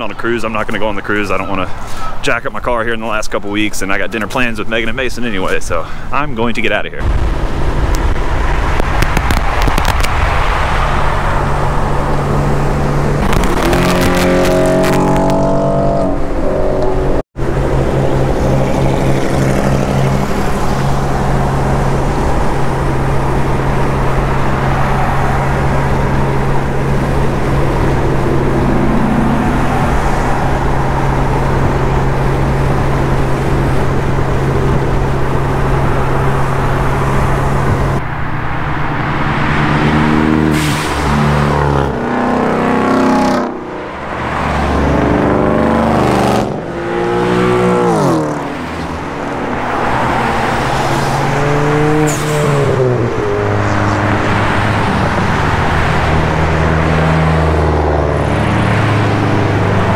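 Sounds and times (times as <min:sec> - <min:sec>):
car engine and exhaust driving: 0:00.0 - 0:59.9.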